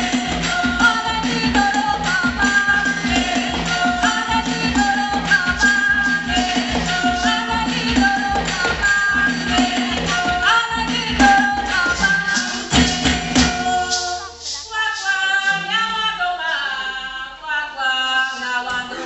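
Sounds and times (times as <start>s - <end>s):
percussion: 0.0s - 16.8s
group singing: 0.0s - 19.0s.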